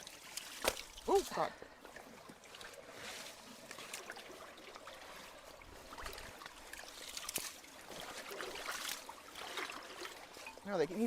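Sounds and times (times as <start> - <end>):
water running through culvert: 0.0 - 11.0.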